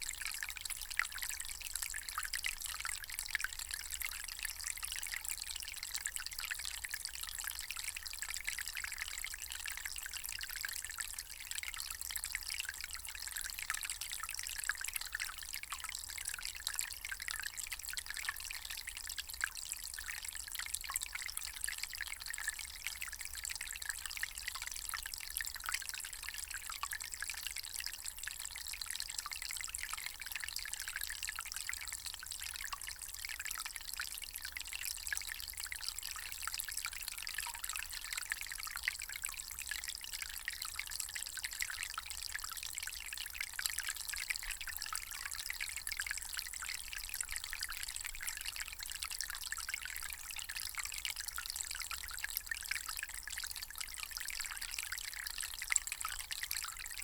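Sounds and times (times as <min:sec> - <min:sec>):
water trickling and pouring: 0:00.4 - 0:57.0.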